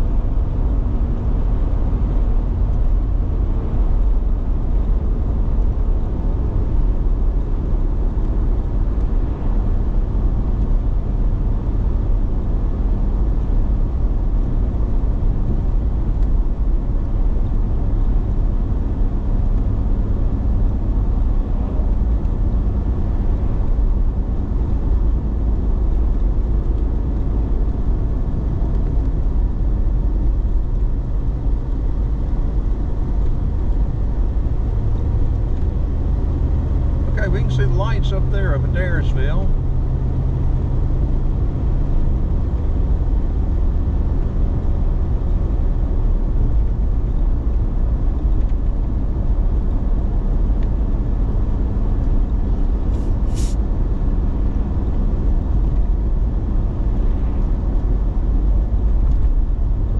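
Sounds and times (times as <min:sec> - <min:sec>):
car road noise and engine hum: 0:00.0 - 0:59.9.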